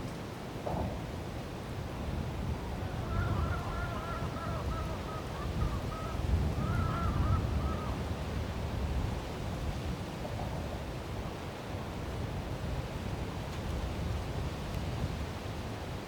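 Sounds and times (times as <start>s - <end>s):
strong wind buffeting microphone: 0.6s - 16.0s.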